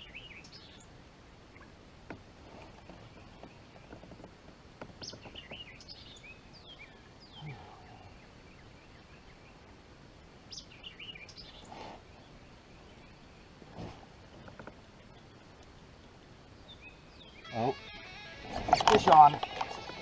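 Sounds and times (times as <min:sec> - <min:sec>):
faint outdoor background noise: 0:00.0 - 0:20.0
songbird singing: 0:00.0 - 0:20.0.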